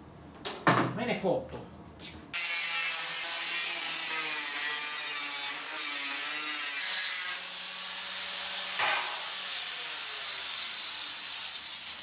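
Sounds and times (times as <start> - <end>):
angle grinder cutting steel: 2.4 - 12.0.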